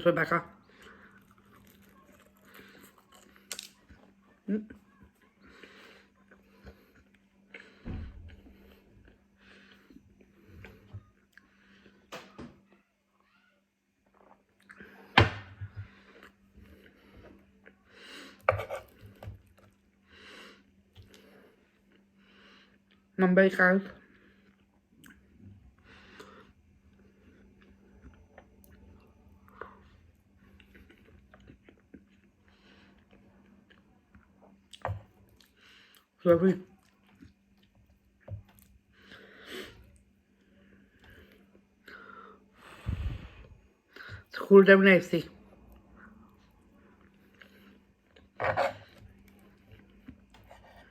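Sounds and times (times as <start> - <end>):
low steady hum: 0.0 - 50.9
person chewing food: 0.6 - 12.0, 14.0 - 23.1, 24.0 - 44.3, 45.5 - 50.9.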